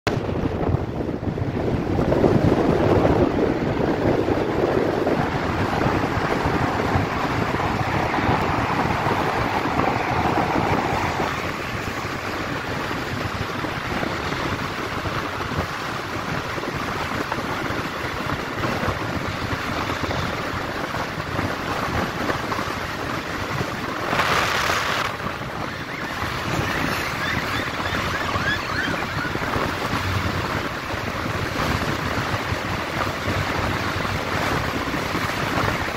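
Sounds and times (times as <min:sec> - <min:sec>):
wind rushing over microphone: 0:00.1 - 0:35.9.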